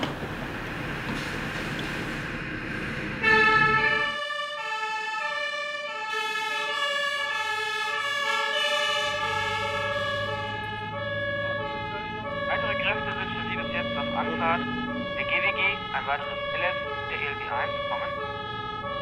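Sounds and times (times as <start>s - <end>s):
truck engine rumble: 0.0s - 19.0s
two-tone fire engine sirens: 0.0s - 19.0s.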